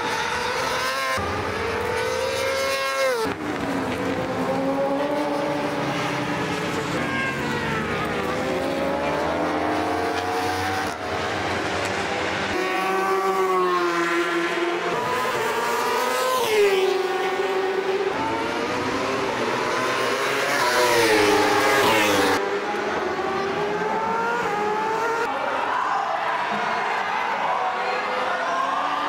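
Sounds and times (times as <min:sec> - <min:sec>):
racing motorcycle engines revving: 0:00.0 - 0:25.4
motorcycles passing by: 0:00.3 - 0:25.3.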